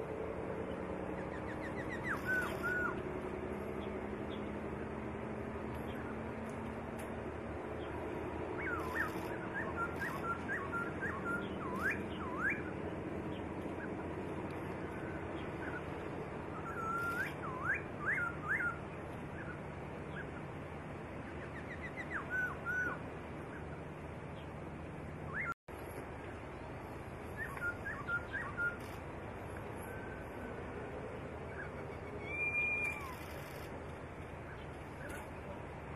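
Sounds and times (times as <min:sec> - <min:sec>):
songbird singing: 0:00.0 - 0:35.6
low background hum: 0:00.0 - 0:35.9.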